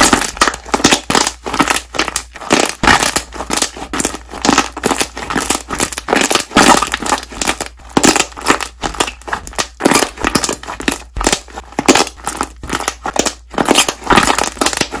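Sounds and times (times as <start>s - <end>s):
slime squeezed with bubbles popping: 0.0s - 15.0s.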